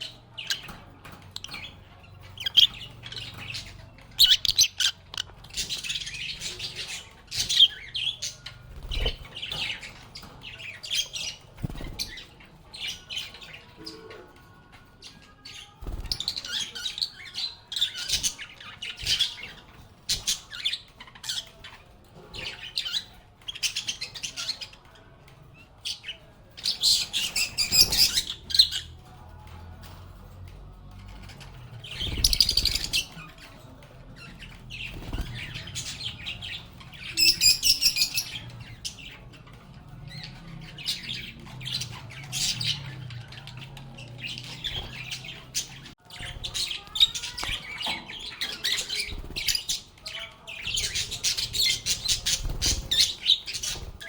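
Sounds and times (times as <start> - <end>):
lovebirds chirping and squawking: 0.0 - 54.0.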